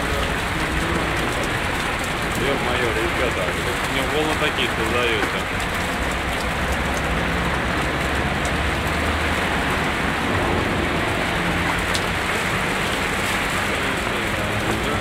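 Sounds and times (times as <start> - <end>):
car engines humming: 0.0 - 15.0
heavy rain hissing: 0.0 - 15.0.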